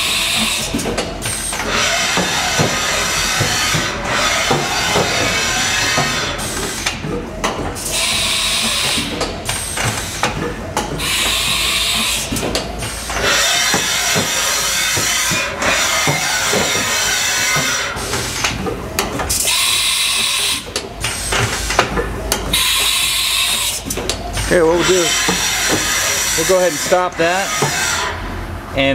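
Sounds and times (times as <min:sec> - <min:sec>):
machine hissing bursts: 0:00.0 - 0:06.9, 0:07.8 - 0:10.4, 0:11.0 - 0:18.5, 0:19.3 - 0:21.8, 0:22.5 - 0:28.2
machine parts clicking and clunking: 0:00.0 - 0:28.2.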